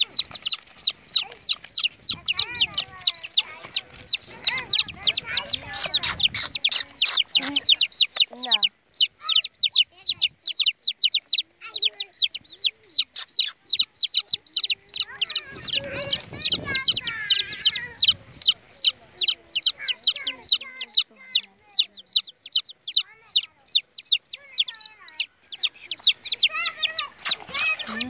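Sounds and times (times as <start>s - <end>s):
baby chicks peeping: 0.0s - 28.0s.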